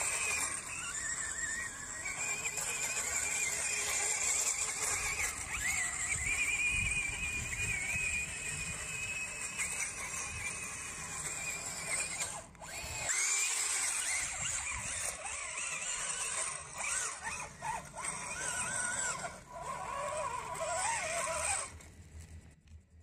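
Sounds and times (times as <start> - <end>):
electric motors whining: 0.0 - 22.6.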